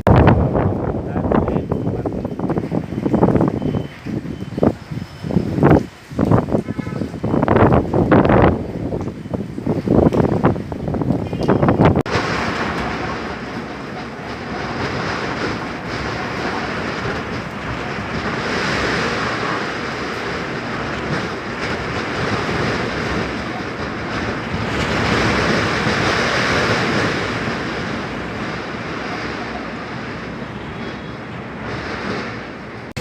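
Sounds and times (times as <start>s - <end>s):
rain: 0.0s - 33.0s
wind: 0.0s - 33.0s.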